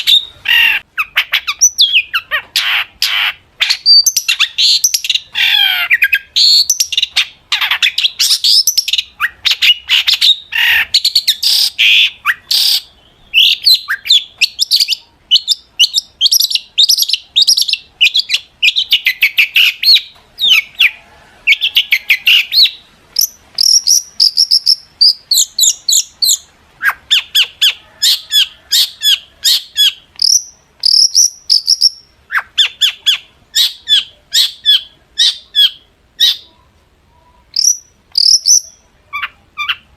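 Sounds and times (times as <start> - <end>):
shrike chattering song: 0.0 - 36.6, 37.2 - 39.9.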